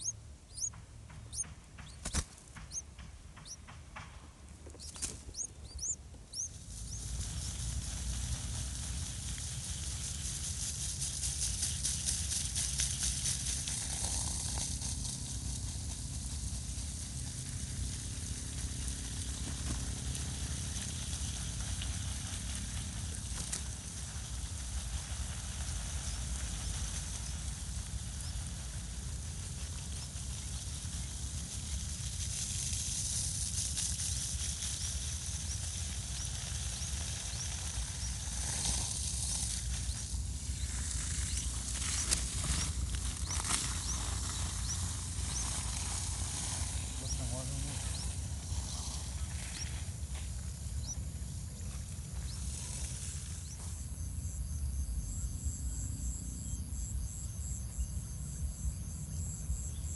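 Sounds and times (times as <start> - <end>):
high hiss: 0.0 - 59.9.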